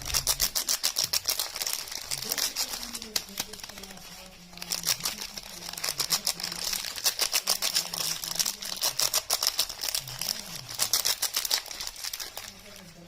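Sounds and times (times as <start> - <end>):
wrapping crackling and crinkling: 0.0 - 13.0.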